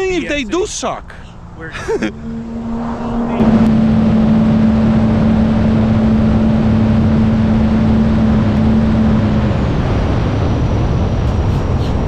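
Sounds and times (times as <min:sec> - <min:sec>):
jet ski engine at full throttle: 0:01.6 - 0:11.5.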